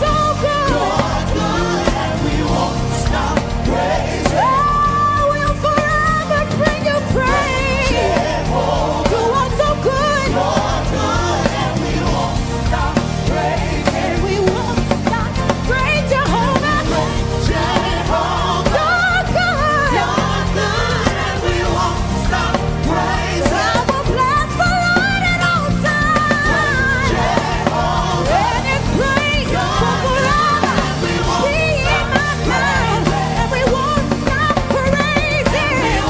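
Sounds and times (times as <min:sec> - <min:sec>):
band accompaniment: 0:00.0 - 0:36.0
voices singing gospel melody: 0:00.0 - 0:36.0.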